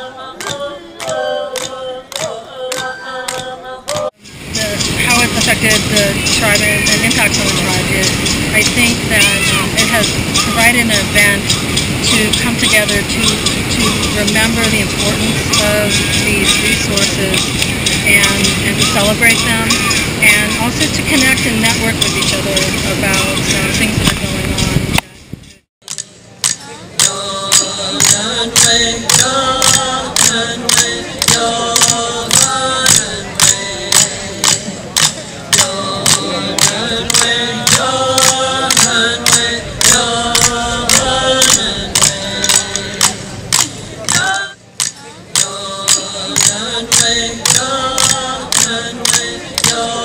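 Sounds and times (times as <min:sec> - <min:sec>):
voices chanting a song: 0:00.0 - 0:24.8, 0:26.6 - 0:50.0
sharp rhythmic click: 0:00.4 - 0:25.1, 0:25.8 - 0:49.9.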